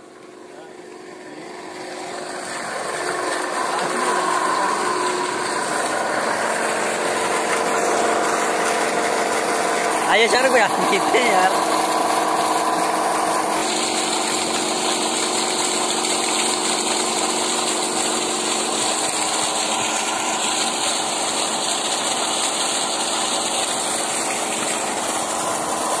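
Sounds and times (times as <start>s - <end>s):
water pump running: 0.0s - 26.0s
water stream splashing: 1.2s - 26.0s.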